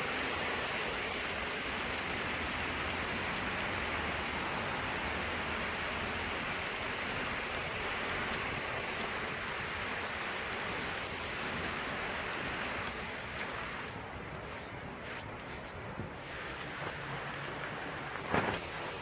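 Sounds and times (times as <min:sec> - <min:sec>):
heavy rain: 0:00.0 - 0:19.0
strong wind: 0:03.2 - 0:19.0.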